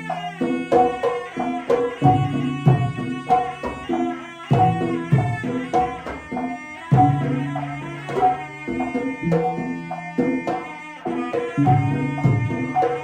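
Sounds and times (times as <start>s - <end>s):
hand drums: 0.0s - 13.0s
ringing pitched percussion: 0.0s - 13.0s.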